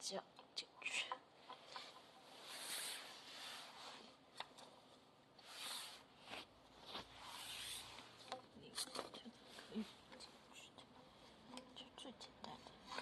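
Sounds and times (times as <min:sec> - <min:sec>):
soft rustling: 0:00.8 - 0:13.0.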